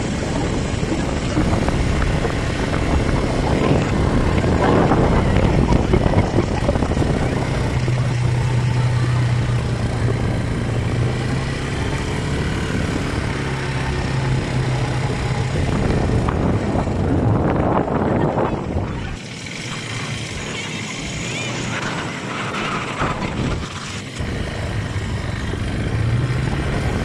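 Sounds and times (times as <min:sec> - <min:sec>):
quad bike engine running: 0:00.0 - 0:27.0
wind on microphone: 0:00.0 - 0:27.0.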